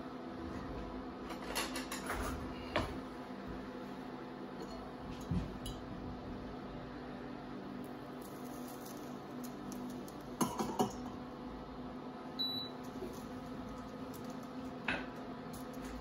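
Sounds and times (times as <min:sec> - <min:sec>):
fan hum: 0:00.0 - 0:16.0.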